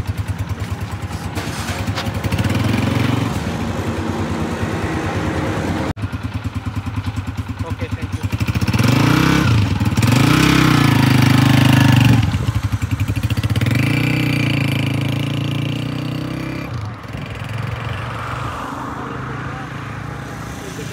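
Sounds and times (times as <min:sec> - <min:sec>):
motorcycle engine pulling away: 0:00.0 - 0:18.8.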